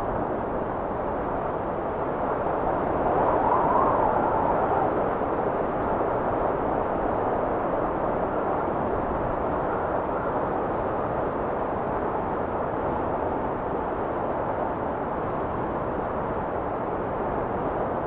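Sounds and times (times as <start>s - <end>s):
steady rushing wind: 0.0s - 18.0s.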